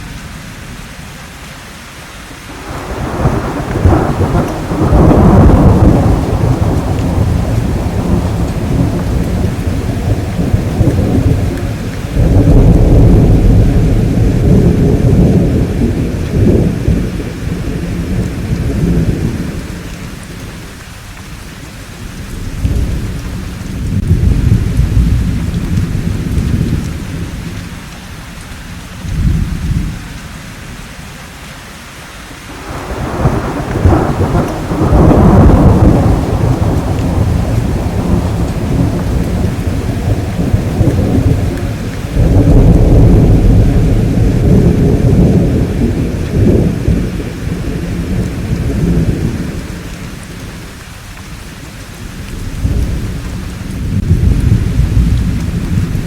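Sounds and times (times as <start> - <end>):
steady rain hissing: 0.0 - 56.0
rolling thunder: 2.5 - 20.8, 22.0 - 27.9, 29.0 - 30.1, 32.5 - 50.8, 52.0 - 56.0.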